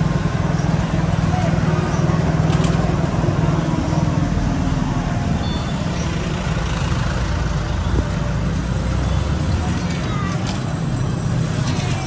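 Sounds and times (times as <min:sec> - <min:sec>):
street noise: 0:00.0 - 0:12.0
vehicle engines rumbling: 0:00.0 - 0:12.0.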